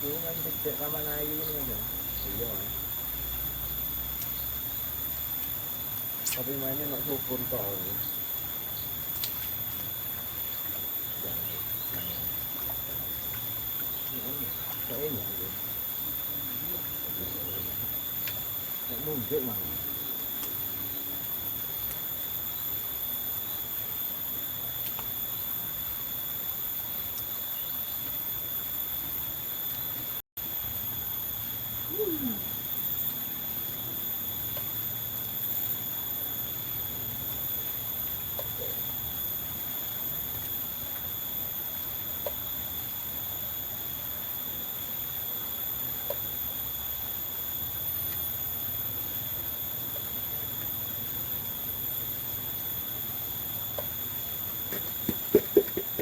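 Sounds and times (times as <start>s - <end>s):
high-pitched whine: 0.0s - 56.0s.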